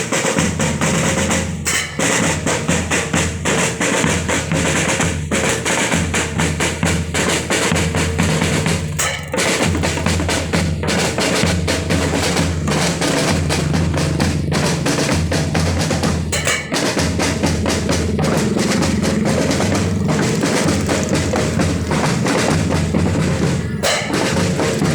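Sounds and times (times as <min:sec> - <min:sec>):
snare and bass drums marching: 0:00.0 - 0:24.9.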